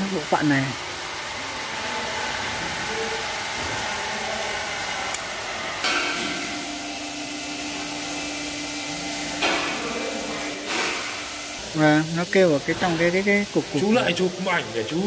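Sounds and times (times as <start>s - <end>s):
fan-like hiss: 0.0s - 15.0s.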